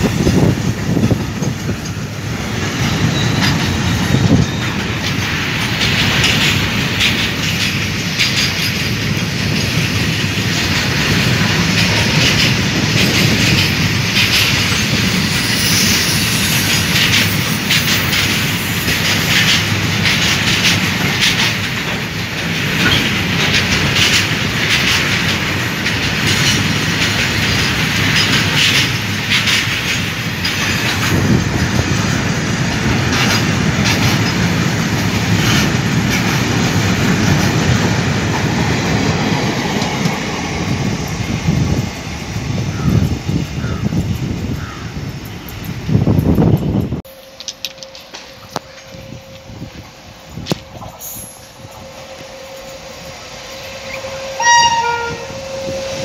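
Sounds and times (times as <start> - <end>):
freight train wheels rumbling: 0.0 - 56.0
wheels clacking over rail joints: 0.0 - 56.0.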